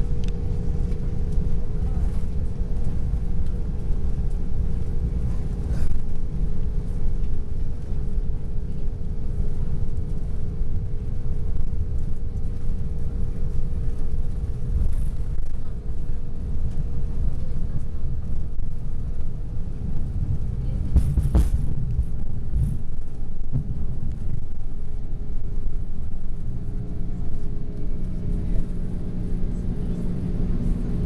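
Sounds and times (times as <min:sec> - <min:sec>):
airliner cabin rumble: 0:00.0 - 0:31.0
steady hum: 0:00.0 - 0:31.0.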